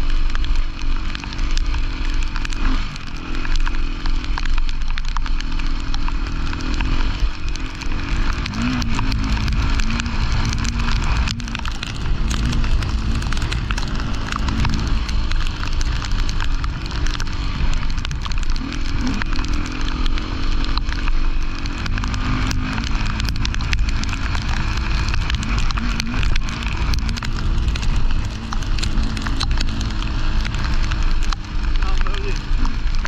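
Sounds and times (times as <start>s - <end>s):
gravel and stones clicking: 0.0s - 33.0s
motorcycle engine running: 0.0s - 33.0s.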